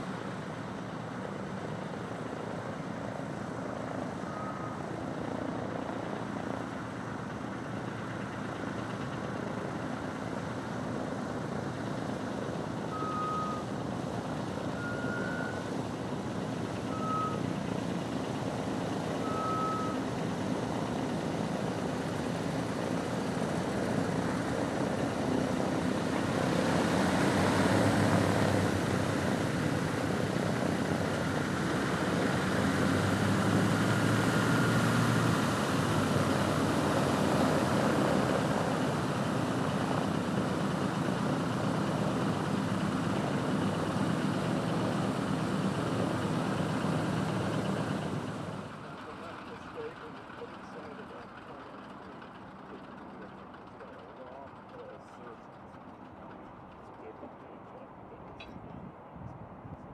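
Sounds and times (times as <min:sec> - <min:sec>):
propeller engines droning: 0:00.0 - 0:59.9.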